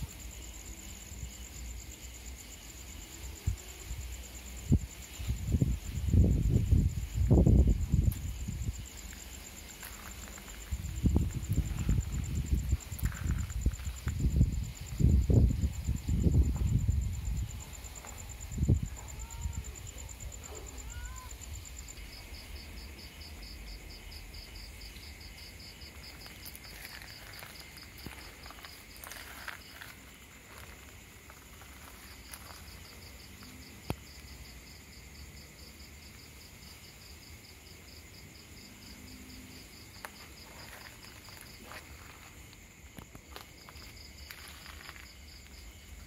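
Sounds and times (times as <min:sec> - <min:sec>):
insects chirping: 0:00.0 - 0:46.0.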